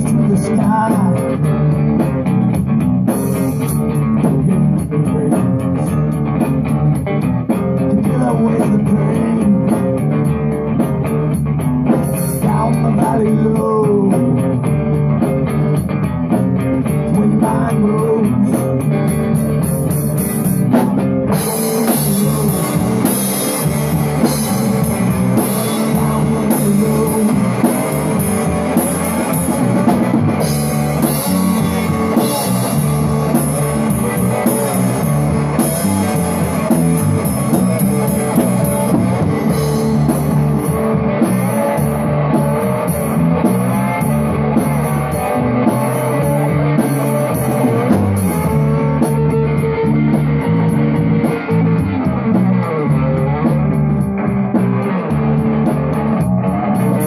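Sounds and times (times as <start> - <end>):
bass guitar: 0.0 - 57.0
drum kit with cymbal hits: 0.0 - 57.0
electric guitar: 0.0 - 57.0.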